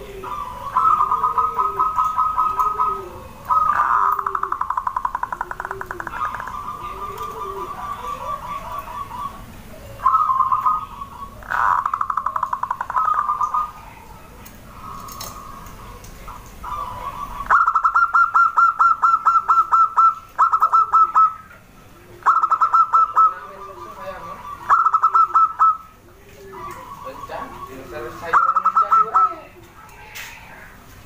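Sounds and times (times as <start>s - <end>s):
doves cooing: 0.0s - 31.0s.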